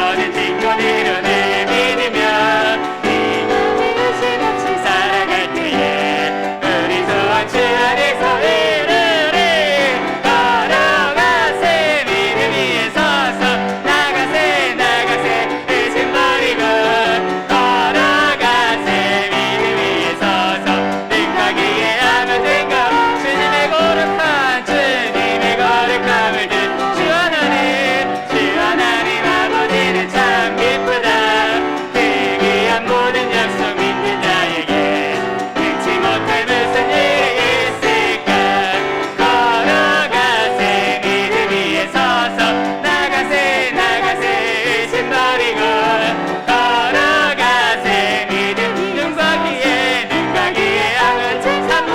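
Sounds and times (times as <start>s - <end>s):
vocalists singing with piano: 0.0s - 51.9s.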